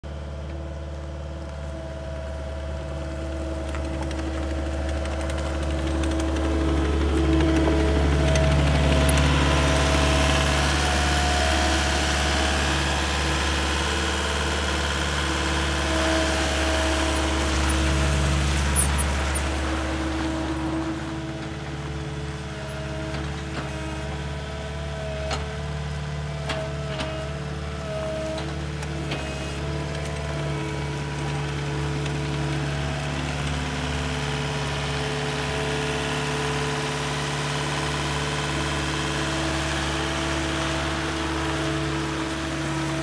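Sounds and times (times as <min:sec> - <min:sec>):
diesel engine of tracked loader: 0:00.0 - 0:43.0.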